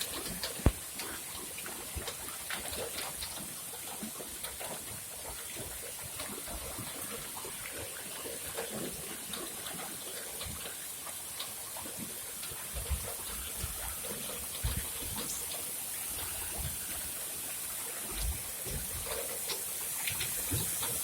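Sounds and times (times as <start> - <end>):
rain splashing: 0.0 - 21.0
water gushing from a drainpipe: 0.0 - 21.0.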